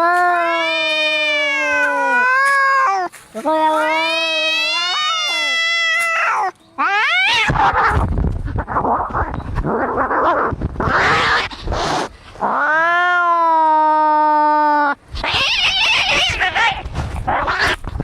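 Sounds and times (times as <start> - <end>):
cat yowling: 0.0 - 8.0, 8.8 - 17.8
cats growling and hissing: 0.0 - 18.0.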